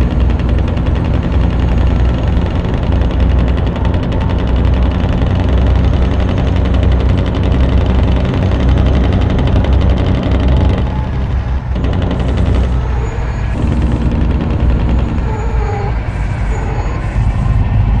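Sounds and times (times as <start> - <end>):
heavy engine rumbling: 0.0 - 18.0.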